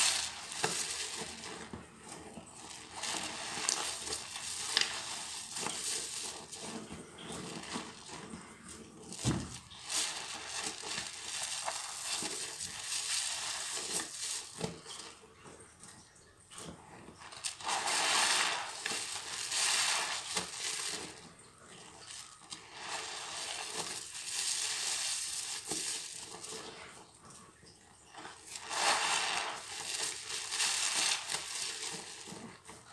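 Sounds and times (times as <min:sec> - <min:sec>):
sponges squeezing suds: 0:00.0 - 0:15.7, 0:16.6 - 0:32.9.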